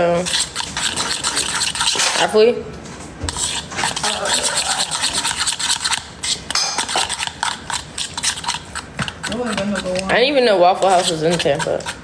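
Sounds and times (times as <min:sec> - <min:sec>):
utensil scraping a bowl: 0:00.0 - 0:02.5, 0:03.2 - 0:12.0.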